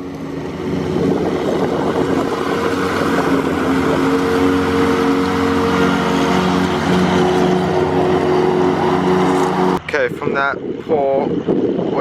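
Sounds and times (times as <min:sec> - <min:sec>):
lawn mower engine running: 0:00.0 - 0:10.4.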